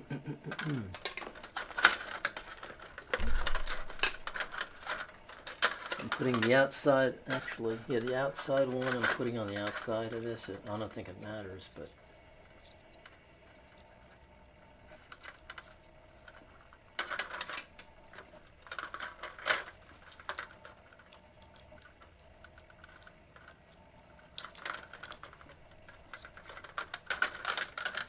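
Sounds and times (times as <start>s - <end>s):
wires and small parts rattling: 0.5s - 28.0s.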